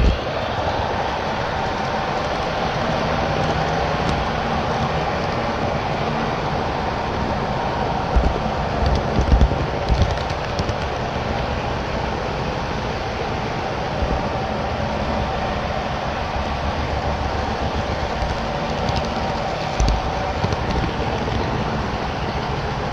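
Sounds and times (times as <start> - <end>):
model trains rolling on track: 0.0 - 22.9.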